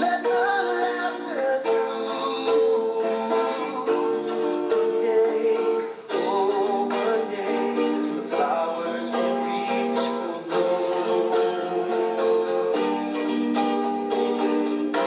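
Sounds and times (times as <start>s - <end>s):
song with plucked strings: 0.0s - 15.0s.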